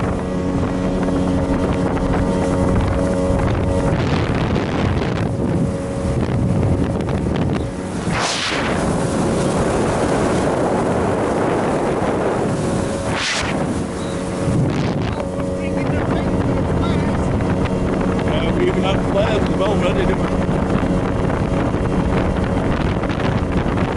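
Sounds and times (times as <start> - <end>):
boat engine running: 0.0 - 23.9
rushing water: 0.0 - 23.9
wind buffeting microphone: 0.0 - 23.9.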